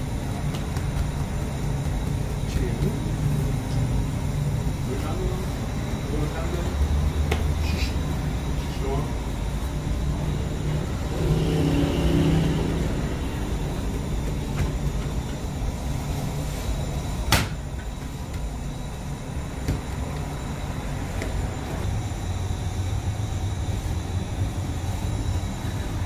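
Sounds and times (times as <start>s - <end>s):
low rumble of machinery: 0.0s - 26.0s.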